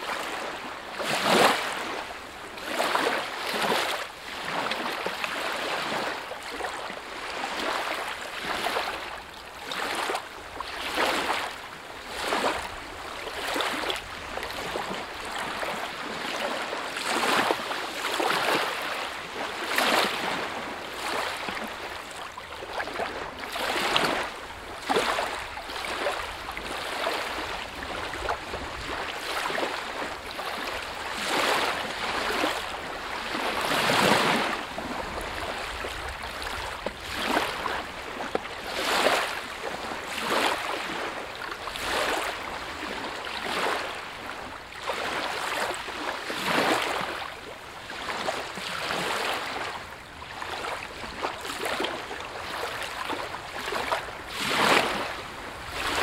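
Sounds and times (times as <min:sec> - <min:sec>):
lake waves lapping: 0:00.0 - 0:56.0.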